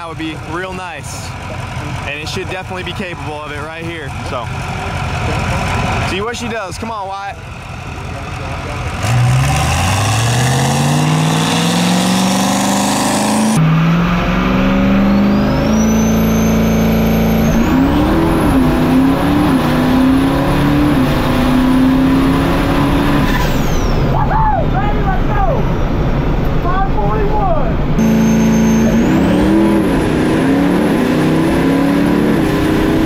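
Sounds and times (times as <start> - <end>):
drag race truck engine accelerating: 0.0 - 24.2, 27.8 - 33.0
high whine: 3.4 - 33.0.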